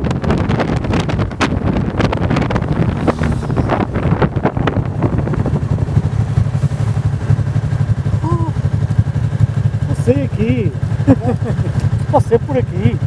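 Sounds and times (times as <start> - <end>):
wind buffeting microphone: 0.0 - 10.9
motorcycle slowing: 0.0 - 13.0
motorcycle engine idling: 0.4 - 13.0.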